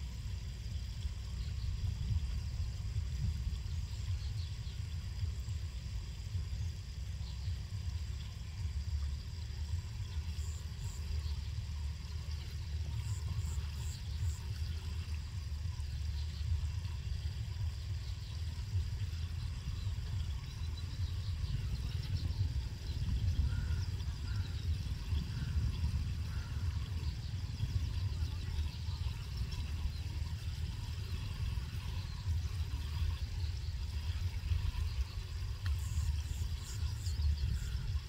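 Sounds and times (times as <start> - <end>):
wind rumbling on microphone: 0.0 - 38.0.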